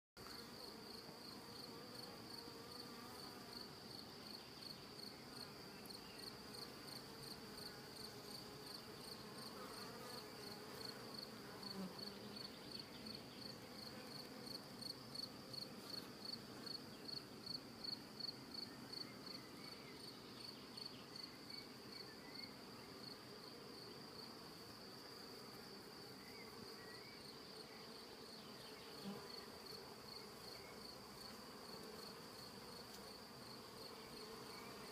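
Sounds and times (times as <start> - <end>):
bees humming faintly: 0.2 - 34.9.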